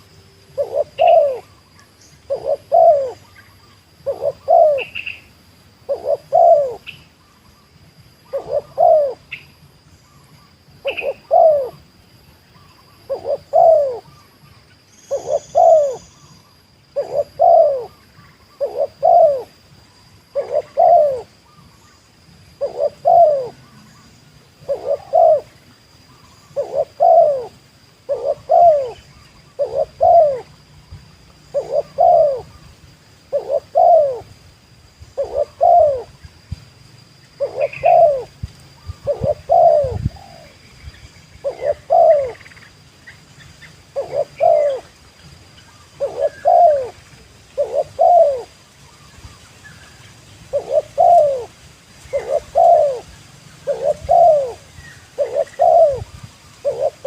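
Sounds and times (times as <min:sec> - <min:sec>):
dove cooing: 0:00.0 - 0:07.3, 0:08.2 - 0:09.5, 0:10.7 - 0:12.0, 0:12.6 - 0:14.4, 0:15.1 - 0:19.6, 0:20.3 - 0:21.9, 0:22.5 - 0:34.4, 0:35.2 - 0:36.2, 0:37.3 - 0:40.6, 0:41.3 - 0:42.7, 0:43.8 - 0:45.0, 0:45.7 - 0:57.0.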